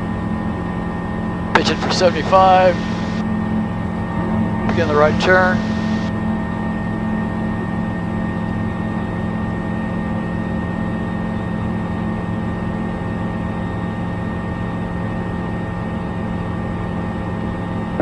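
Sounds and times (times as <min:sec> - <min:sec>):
light aircraft engine and propeller: 0:00.0 - 0:18.0.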